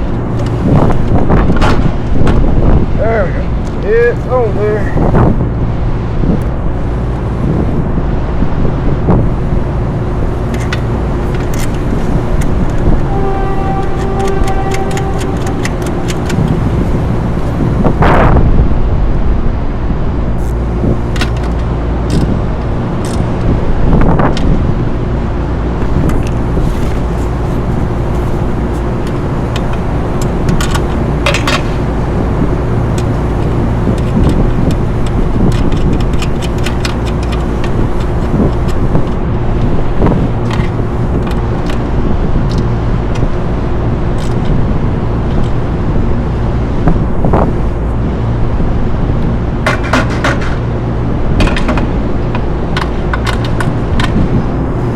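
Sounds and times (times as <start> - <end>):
machinery drone with low hum: 0.0 - 54.9.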